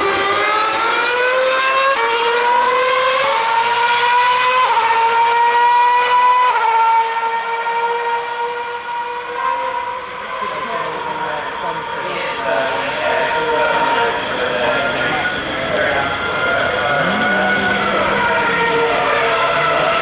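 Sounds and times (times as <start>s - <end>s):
racing car engine accelerating: 0.0s - 20.0s.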